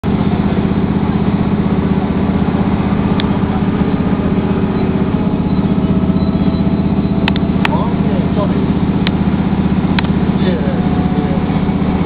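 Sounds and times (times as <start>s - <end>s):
train engine droning: 0.0s - 12.0s.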